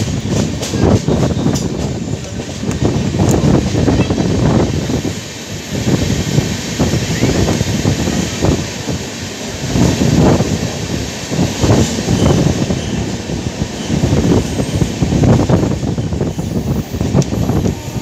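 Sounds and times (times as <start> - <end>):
train wheels rumbling on rail: 0.0 - 18.0
wind buffeting microphone: 0.0 - 18.0.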